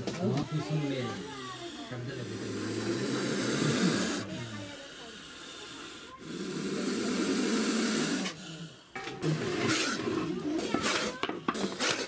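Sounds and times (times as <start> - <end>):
cobra hissing: 1.1 - 12.0.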